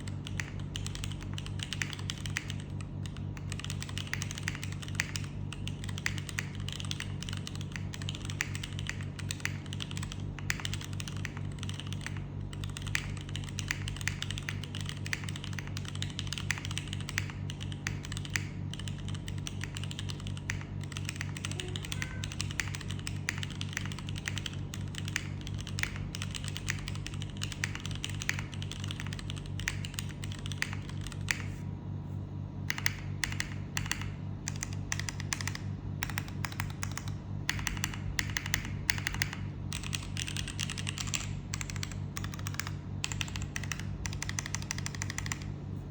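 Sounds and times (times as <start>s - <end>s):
fast mechanical keyboard typing: 0.0s - 31.6s, 32.6s - 45.6s.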